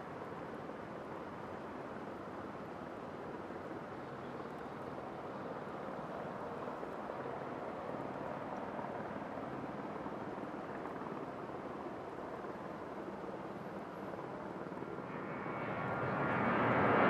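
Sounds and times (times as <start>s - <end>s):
distant jet engine rumble: 0.0s - 17.0s.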